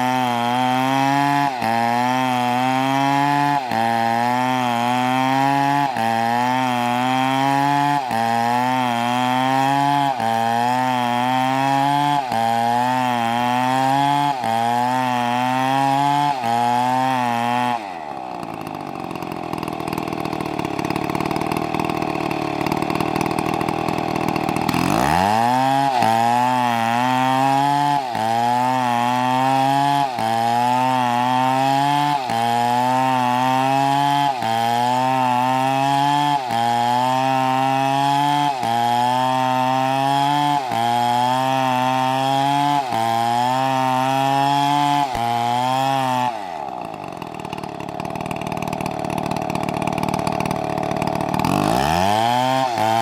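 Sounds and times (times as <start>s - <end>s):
chainsaw cutting through wood: 0.0s - 53.0s.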